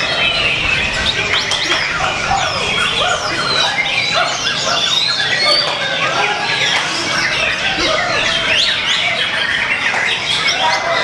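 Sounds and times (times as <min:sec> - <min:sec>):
other birds calling: 0:00.0 - 0:11.0
songbird whistling and chirping: 0:00.0 - 0:11.0.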